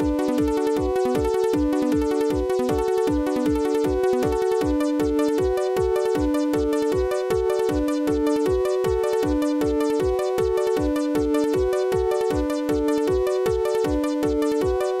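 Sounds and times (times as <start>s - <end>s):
synthesizer chords and melody: 0.0s - 15.0s.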